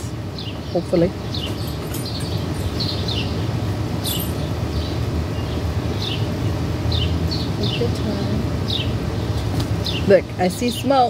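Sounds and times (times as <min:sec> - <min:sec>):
low outdoor rumble: 0:00.0 - 0:11.0
bird chirping: 0:00.4 - 0:08.0, 0:08.6 - 0:10.1.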